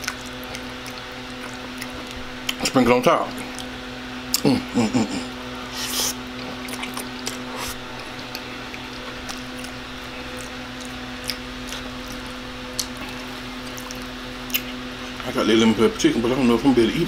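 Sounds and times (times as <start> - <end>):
person chewing spaghetti: 0.0 - 2.7, 3.4 - 4.5, 5.2 - 15.2
steady low hum: 0.0 - 17.0.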